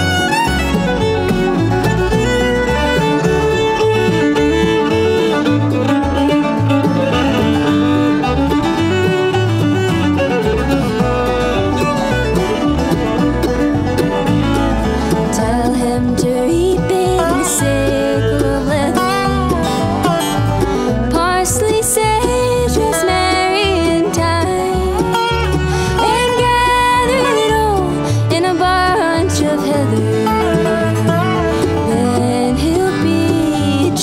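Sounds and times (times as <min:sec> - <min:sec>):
acoustic guitar: 0:00.0 - 0:34.0
banjo: 0:00.0 - 0:34.0
fiddle: 0:00.0 - 0:34.0
low bass line: 0:00.0 - 0:34.0.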